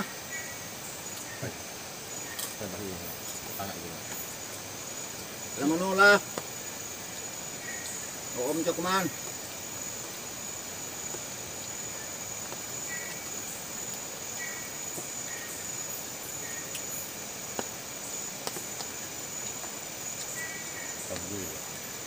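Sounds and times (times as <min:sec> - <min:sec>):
insects droning: 0:00.0 - 0:22.0
rural background hum: 0:00.0 - 0:22.0.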